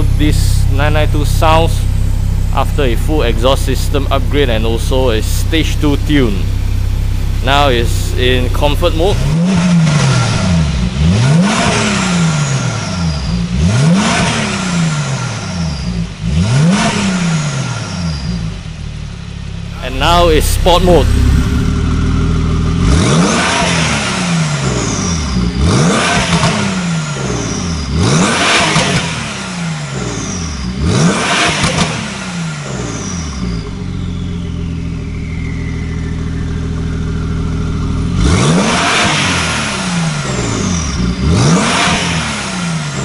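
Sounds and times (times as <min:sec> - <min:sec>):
car engine idling: 0:00.0 - 0:13.6, 0:14.4 - 0:31.0, 0:32.1 - 0:43.0
sports car engine revving: 0:00.0 - 0:43.0.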